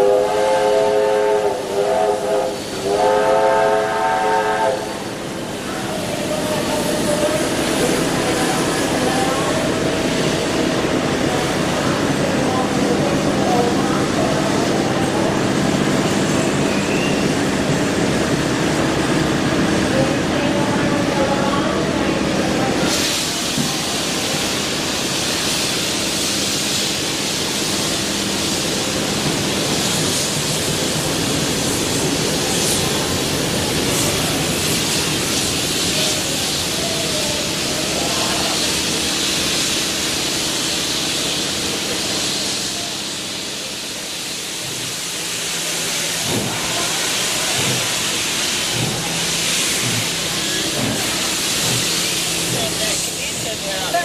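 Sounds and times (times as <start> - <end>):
diesel locomotive engine humming: 0.0 - 54.0
steam hissing: 0.0 - 54.0.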